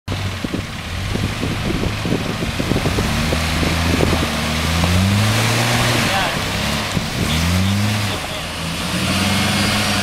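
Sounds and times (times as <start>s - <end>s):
truck engines revving: 0.1s - 10.0s.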